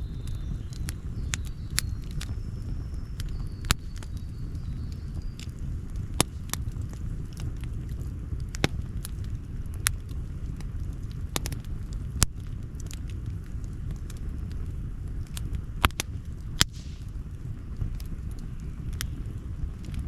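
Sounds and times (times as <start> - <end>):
fire low rumble: 0.0 - 20.0
wood popping and crackling: 0.0 - 20.0.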